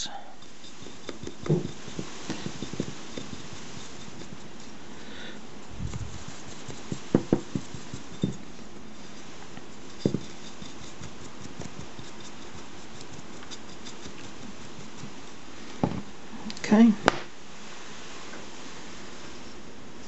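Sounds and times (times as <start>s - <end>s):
brush bristles ticking: 0.4s - 16.8s.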